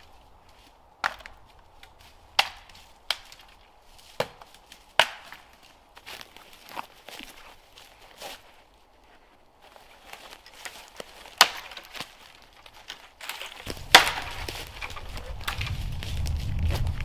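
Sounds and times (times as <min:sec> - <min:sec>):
dry branches snapping: 0:00.0 - 0:08.5, 0:09.6 - 0:17.0.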